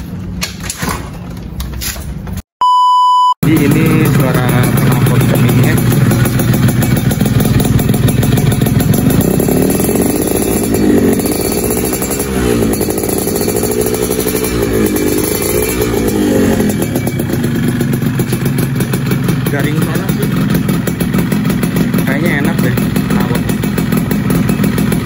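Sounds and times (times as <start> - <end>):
two-stroke engine revving: 3.4 - 25.0.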